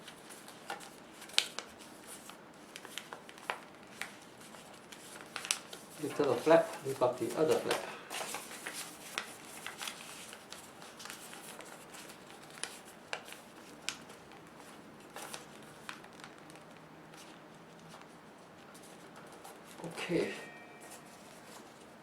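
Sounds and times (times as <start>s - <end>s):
paper rustling: 0.0s - 22.0s
paper flaps ticking: 0.1s - 20.3s.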